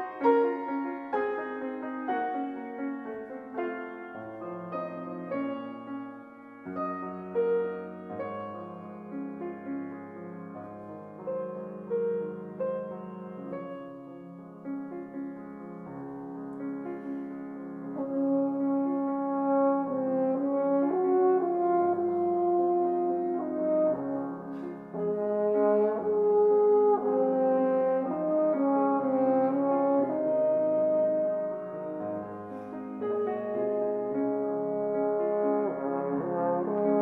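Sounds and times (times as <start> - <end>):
french horn melody: 0.0 - 14.3, 16.6 - 37.0
grand piano: 0.0 - 37.0.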